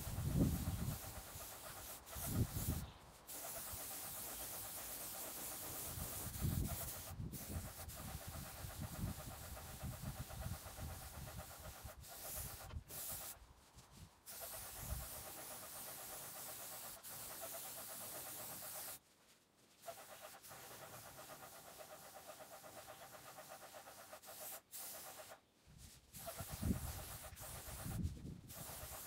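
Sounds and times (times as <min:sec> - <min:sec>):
paint sprayer hissing: 0:00.0 - 0:13.4, 0:14.3 - 0:19.0, 0:19.8 - 0:25.4, 0:26.2 - 0:29.0.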